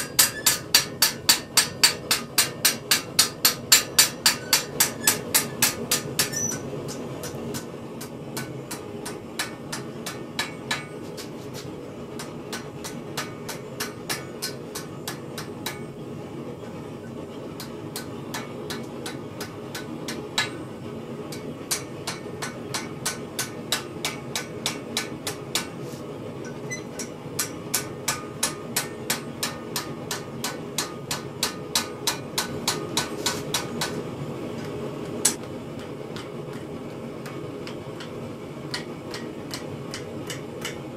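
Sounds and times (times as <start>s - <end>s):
hammer striking metal: 0.0s - 15.9s, 17.6s - 20.6s, 21.3s - 25.8s, 26.4s - 34.0s, 34.6s - 40.8s.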